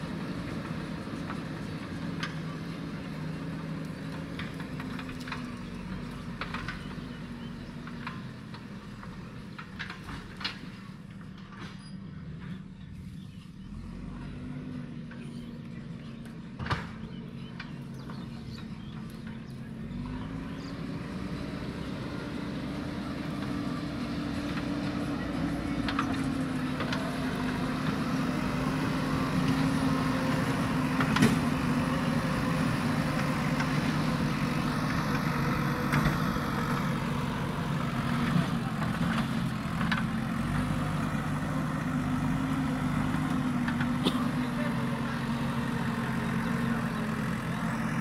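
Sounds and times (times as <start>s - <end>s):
backhoe diesel engine running: 0.0s - 48.0s.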